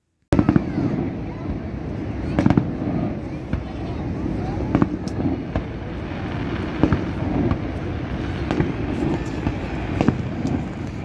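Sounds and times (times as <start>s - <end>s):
fireworks bursting with bangs: 0.3s - 11.0s
steady low rumble: 0.5s - 11.0s.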